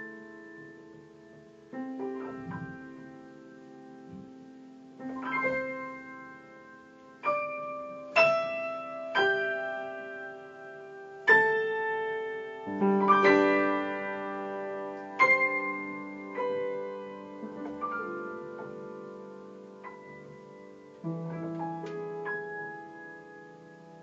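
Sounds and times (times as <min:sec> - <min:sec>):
slow solo piano: 0:00.0 - 0:24.0.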